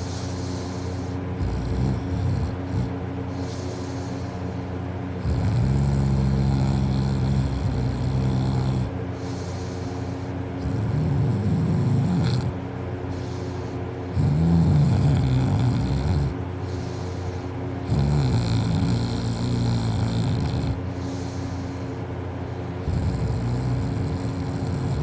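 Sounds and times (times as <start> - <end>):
person snoring loudly: 0.0 - 4.4, 5.2 - 21.9, 22.8 - 25.0.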